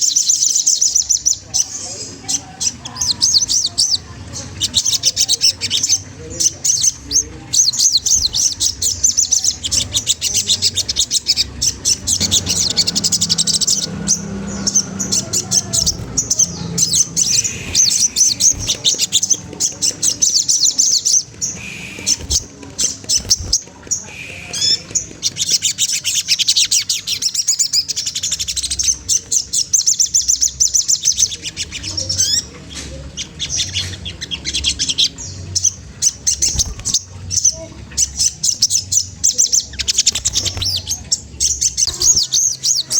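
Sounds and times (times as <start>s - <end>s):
songbird chattering trills: 0.0s - 42.9s.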